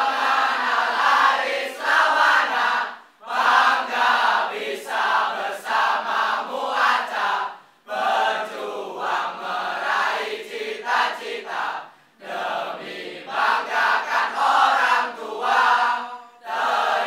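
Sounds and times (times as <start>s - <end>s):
crowd singing and chanting: 0.0s - 17.0s.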